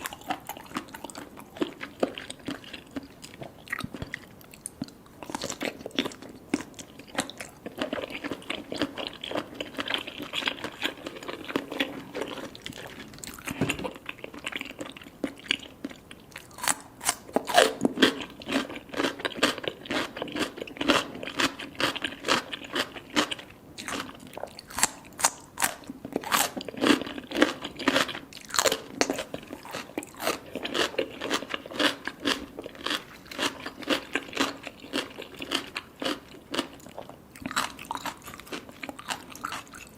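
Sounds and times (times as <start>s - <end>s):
close-miked chewing crunches: 0.0s - 39.9s.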